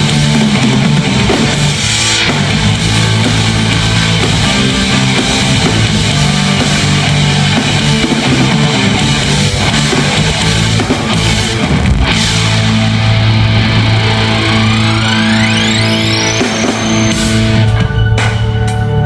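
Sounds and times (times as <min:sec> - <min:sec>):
drum kit: 0:00.0 - 0:19.0
electric guitar: 0:00.0 - 0:19.0
low bass notes: 0:00.0 - 0:19.0
rock band playing: 0:00.0 - 0:19.0.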